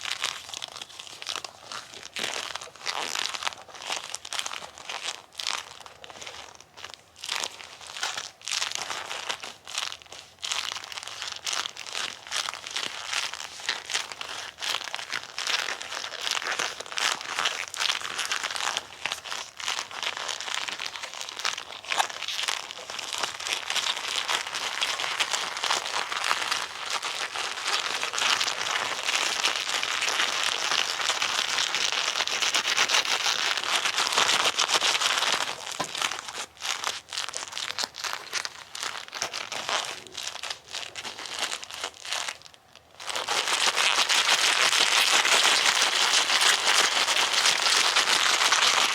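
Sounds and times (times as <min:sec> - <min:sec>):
rubber gloves rubbing and crackling: 0:00.0 - 0:48.9.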